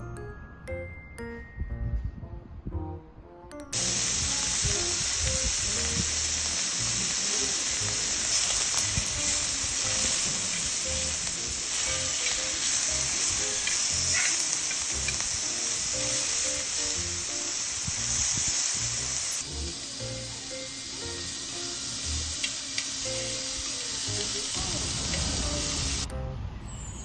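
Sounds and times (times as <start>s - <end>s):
soft background music: 0.0s - 26.9s
beef sizzling in a frying pan: 3.8s - 26.1s.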